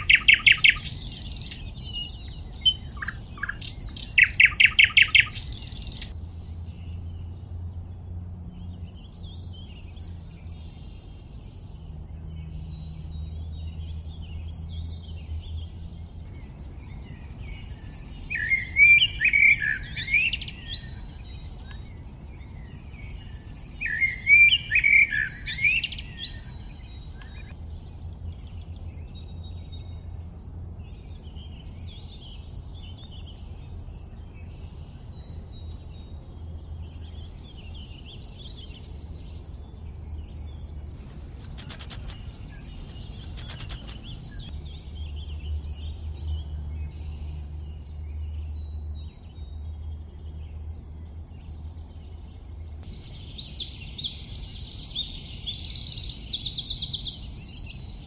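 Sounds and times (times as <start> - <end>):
songbirds singing: 0.0 - 58.0
steady low background noise: 0.0 - 58.0.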